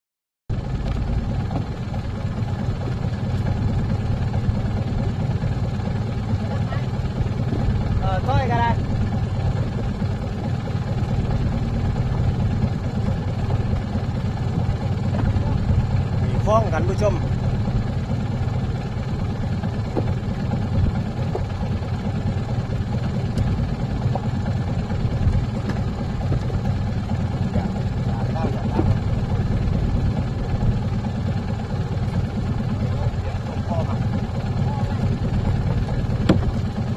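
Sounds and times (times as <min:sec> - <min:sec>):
boat engine droning: 0:00.5 - 0:36.9.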